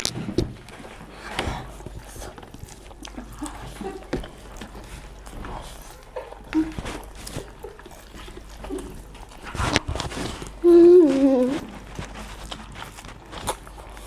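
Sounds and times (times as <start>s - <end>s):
chewing and mouth noises: 0.0s - 14.0s.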